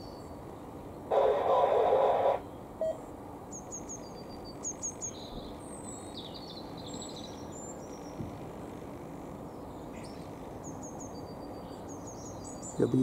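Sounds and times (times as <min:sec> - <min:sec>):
steady background noise: 0:00.0 - 0:13.0
small birds chirping: 0:02.3 - 0:13.0.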